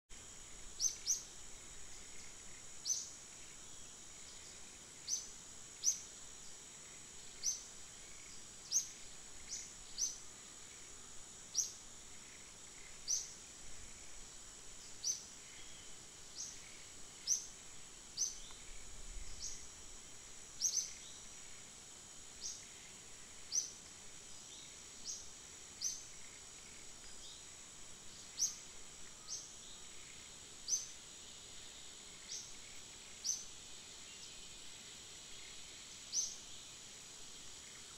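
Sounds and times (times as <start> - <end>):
high-pitched insect drone: 0.1 - 37.9.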